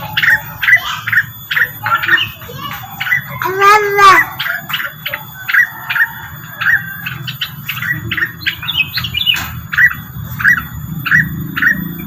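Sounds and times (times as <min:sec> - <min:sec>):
bird lure call chirps: 0:00.0 - 0:12.0.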